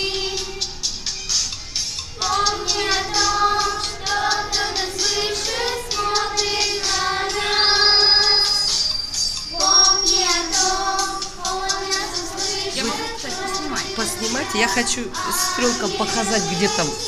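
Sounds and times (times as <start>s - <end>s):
children singing: 0.0s - 1.0s, 2.1s - 17.0s
musical accompaniment: 0.0s - 17.0s.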